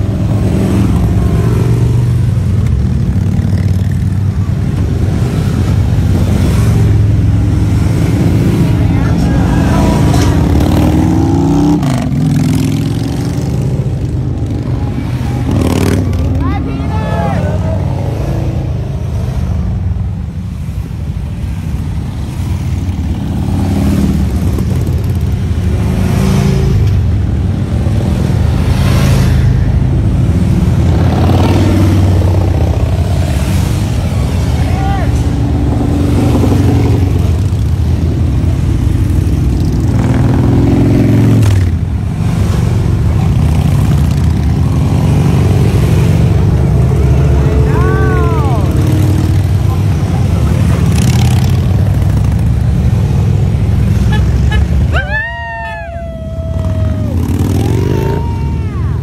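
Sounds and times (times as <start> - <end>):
motorcycles riding past: 0.0 - 59.0.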